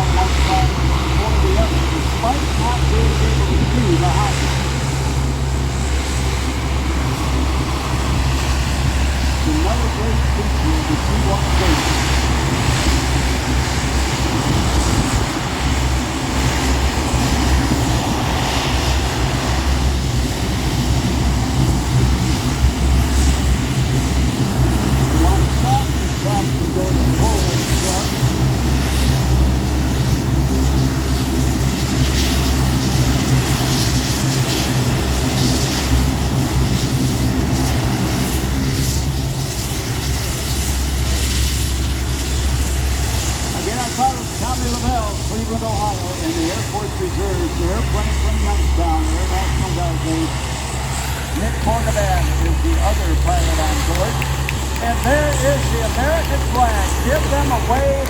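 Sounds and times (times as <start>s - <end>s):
engine hiss: 0.0s - 58.0s
turboprop engines droning: 0.0s - 58.0s.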